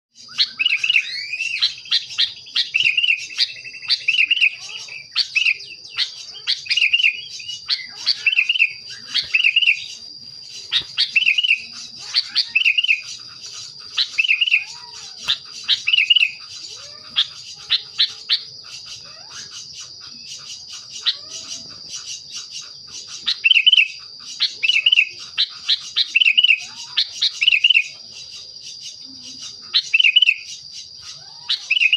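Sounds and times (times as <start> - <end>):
bulbul calling: 0.1 - 31.9.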